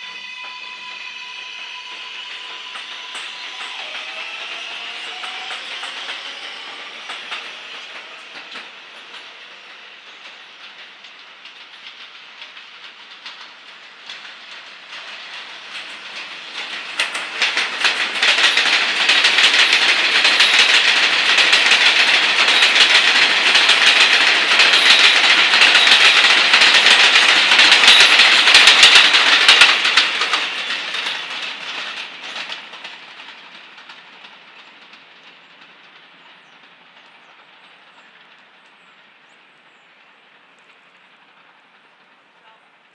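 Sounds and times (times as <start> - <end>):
train wheels clattering over rail joints: 1.9 - 42.9.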